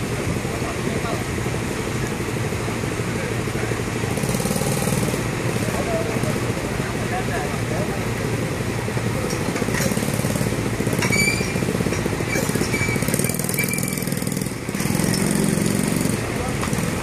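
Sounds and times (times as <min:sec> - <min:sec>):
engine running with low pulsing: 0:00.0 - 0:17.0.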